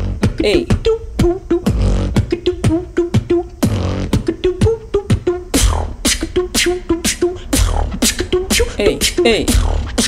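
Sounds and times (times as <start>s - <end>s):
beatboxing into a microphone: 0.0s - 10.0s.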